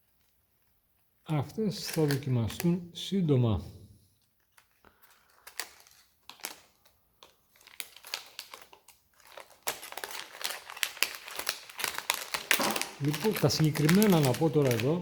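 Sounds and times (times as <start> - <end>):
plastic packaging crinkling: 0.0 - 2.8, 4.2 - 15.0.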